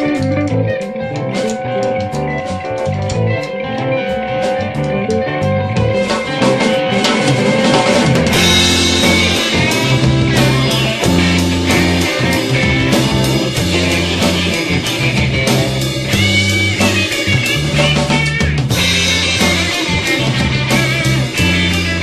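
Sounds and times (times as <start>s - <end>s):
drum kit: 0.0s - 22.0s
guitar: 0.0s - 22.0s
low bass notes: 0.0s - 22.0s
rock band music: 0.0s - 22.0s.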